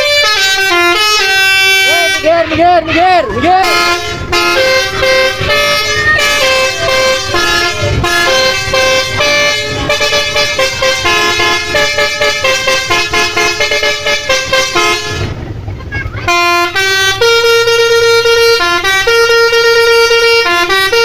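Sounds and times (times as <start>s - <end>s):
multi-tone air horn melody: 0.0s - 15.4s, 16.2s - 21.0s.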